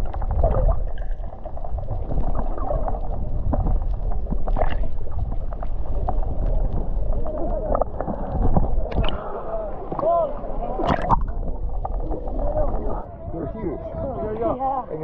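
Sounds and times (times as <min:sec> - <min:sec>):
muffled water sloshing and gurgling: 0:00.0 - 0:14.7
low rumble: 0:00.0 - 0:14.9.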